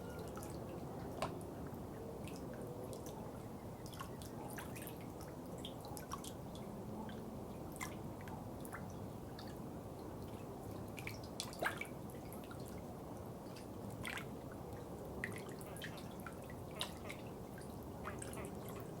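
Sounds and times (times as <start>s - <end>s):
low water murmur: 0.0s - 19.0s.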